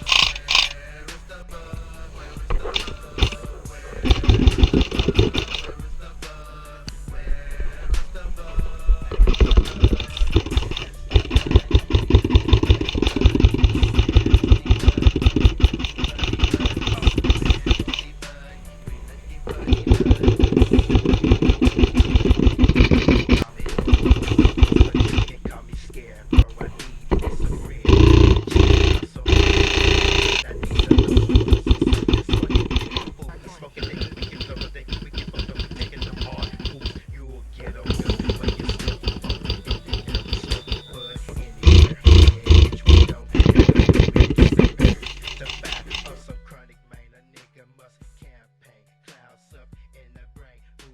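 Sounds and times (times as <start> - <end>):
airsoft rifle automatic fire: 0.0 - 6.8, 7.4 - 46.2
gearbox buzzing: 0.0 - 46.2.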